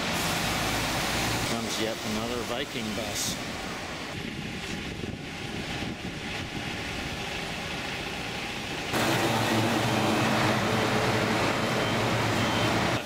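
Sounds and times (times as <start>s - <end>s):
heavy truck and bus engines: 0.0s - 13.0s
road traffic passing: 0.0s - 13.0s.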